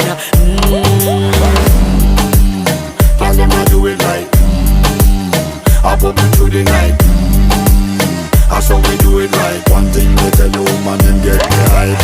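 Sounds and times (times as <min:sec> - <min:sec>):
sung lines: 0:00.0 - 0:12.0
upbeat reggae dance track: 0:00.0 - 0:12.0.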